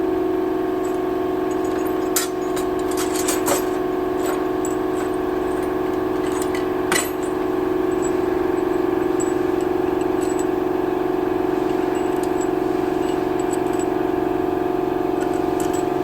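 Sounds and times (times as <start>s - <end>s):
steady machine hum: 0.0s - 16.0s
metal engine parts clinking: 0.8s - 16.0s.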